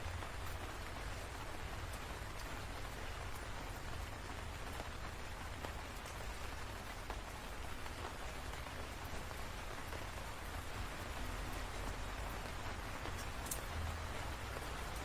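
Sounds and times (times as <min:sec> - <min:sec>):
sharp raindrop ticks: 0:00.0 - 0:15.0
steady rain: 0:00.0 - 0:15.0.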